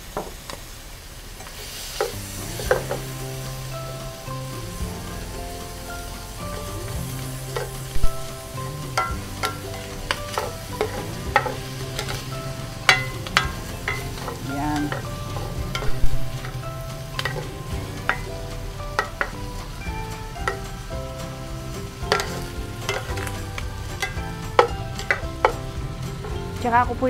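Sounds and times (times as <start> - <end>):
food sizzling in frying pan: 0.0 - 27.0
spoon knocking and scraping pan: 2.0 - 26.6.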